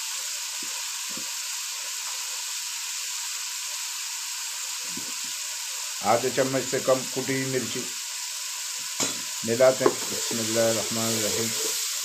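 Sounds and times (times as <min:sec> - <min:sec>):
masala sizzling in a pan: 0:00.0 - 0:12.0.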